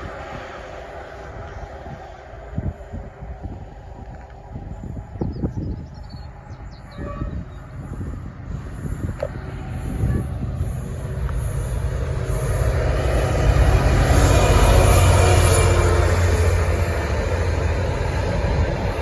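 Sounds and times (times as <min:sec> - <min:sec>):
diesel train engine hum: 0:00.0 - 0:19.0
wheels on rails: 0:00.0 - 0:19.0.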